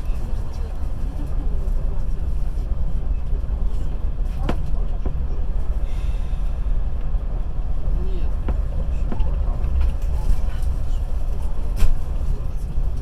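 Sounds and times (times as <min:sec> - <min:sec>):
train carriage rumbling on track: 0:00.0 - 0:13.0.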